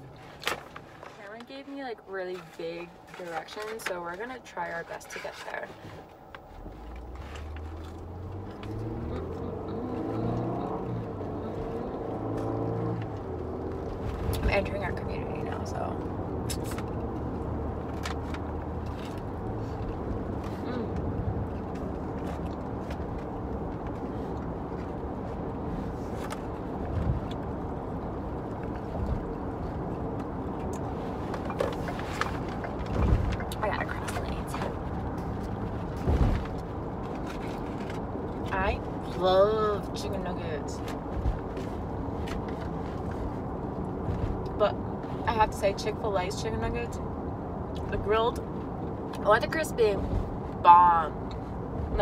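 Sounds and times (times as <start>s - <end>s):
road noise inside car: 0.0s - 52.0s
car engine accelerating: 6.4s - 52.0s.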